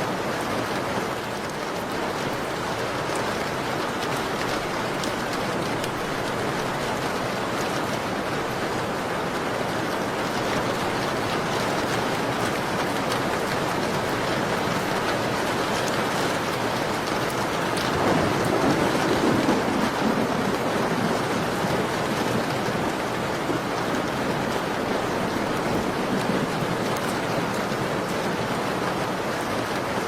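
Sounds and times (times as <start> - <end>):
rain falling: 0.0 - 30.0
raindrops ticking: 1.4 - 8.7, 10.1 - 29.9.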